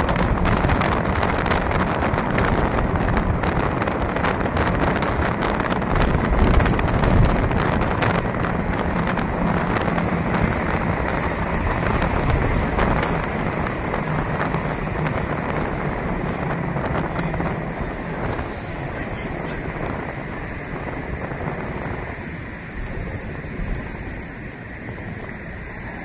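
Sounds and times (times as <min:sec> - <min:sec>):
bus drive and road noise: 0:00.0 - 0:26.0.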